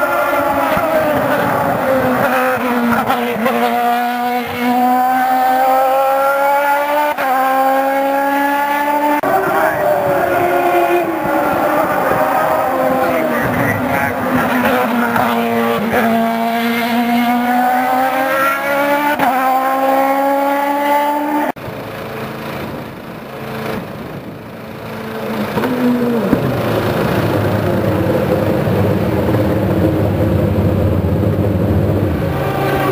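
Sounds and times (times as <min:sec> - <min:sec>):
low engine drone: 0:00.0 - 0:32.9
race car engine accelerating: 0:00.0 - 0:32.9.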